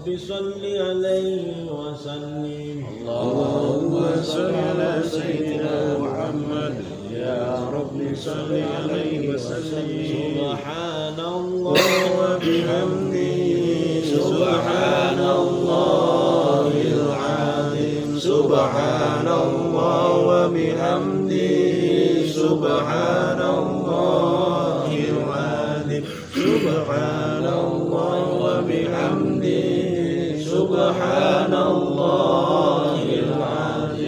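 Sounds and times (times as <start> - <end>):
men chanting prayers: 0.0 - 34.0.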